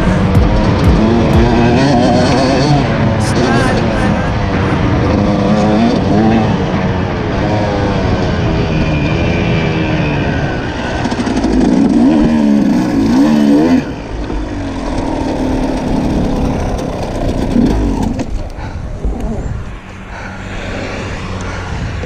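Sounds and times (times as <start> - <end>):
dirt bike engine revving: 0.0 - 18.4
wind and riding noise: 0.0 - 22.0.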